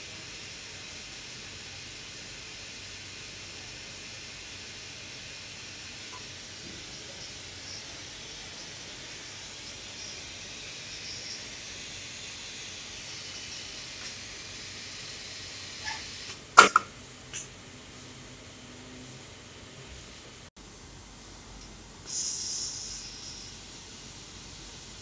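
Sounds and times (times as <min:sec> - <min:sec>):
steady machine hiss: 0:00.0 - 0:25.0.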